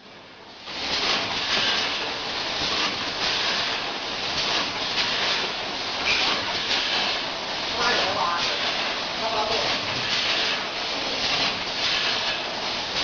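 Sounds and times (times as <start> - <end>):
packaging machine rattling hiss: 0.6 - 13.0.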